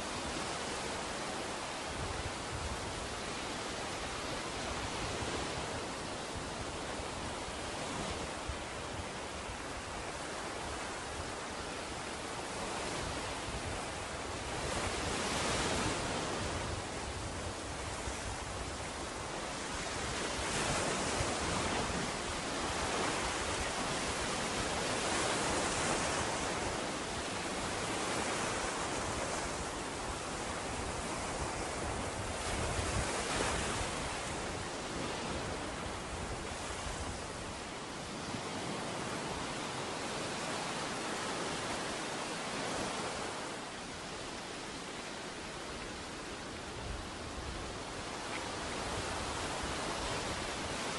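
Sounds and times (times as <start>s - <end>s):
ocean waves washing on beach: 0.0s - 50.9s.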